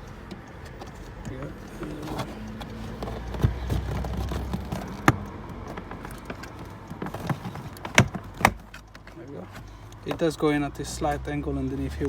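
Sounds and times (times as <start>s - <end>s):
plastic trim panel being handled: 0.0s - 10.5s.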